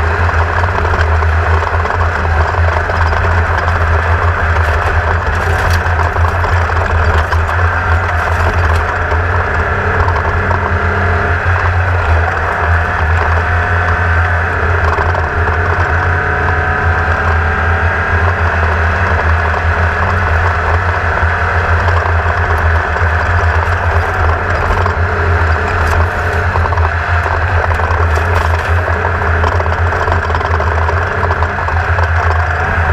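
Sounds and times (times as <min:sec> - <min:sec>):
race car engine running: 0:00.0 - 0:32.9.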